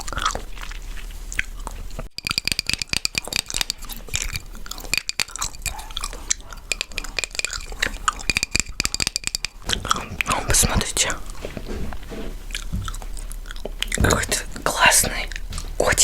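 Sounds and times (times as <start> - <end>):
gum chewing mouth clicks: 0.0 - 11.7, 12.4 - 16.0.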